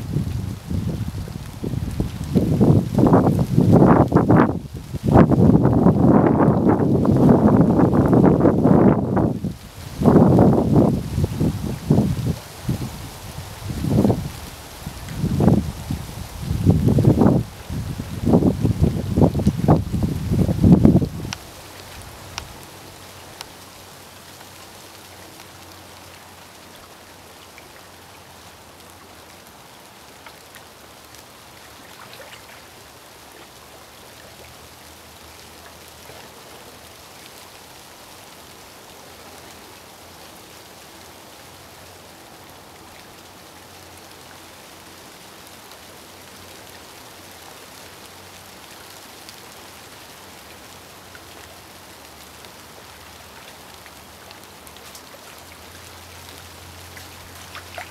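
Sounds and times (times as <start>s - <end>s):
light rain hiss: 0.0s - 57.9s.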